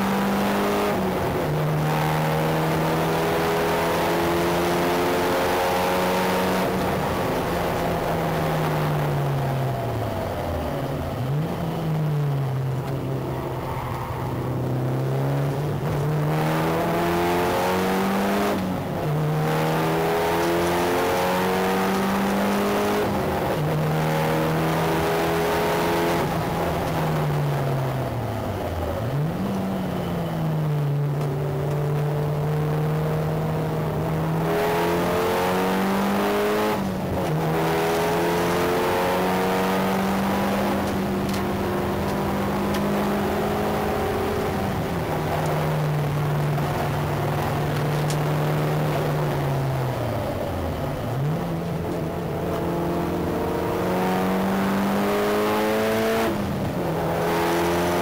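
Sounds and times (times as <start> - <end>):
car engine revving hard: 0.0 - 9.7, 11.3 - 28.2, 30.6 - 58.0.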